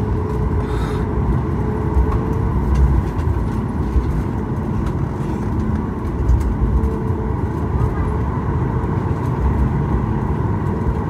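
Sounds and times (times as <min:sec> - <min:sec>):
faint engine whine: 0:00.0 - 0:11.0
low engine rumble: 0:00.0 - 0:11.0.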